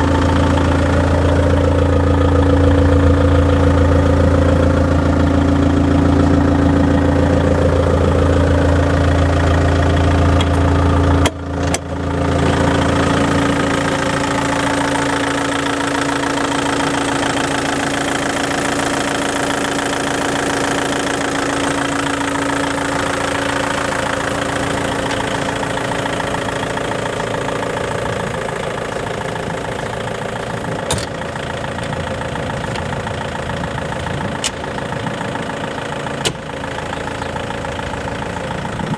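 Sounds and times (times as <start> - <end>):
diesel forklift engine idling: 0.0 - 38.9.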